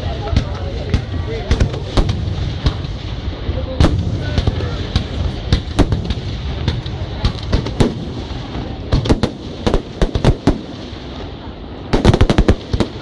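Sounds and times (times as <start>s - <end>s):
background rumble: 0.0s - 13.0s
fireworks bangs: 0.0s - 13.0s.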